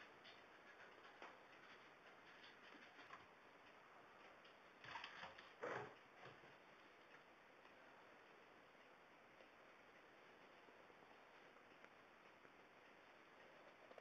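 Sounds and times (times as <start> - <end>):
pendulum clock ticking: 0.0 - 14.0.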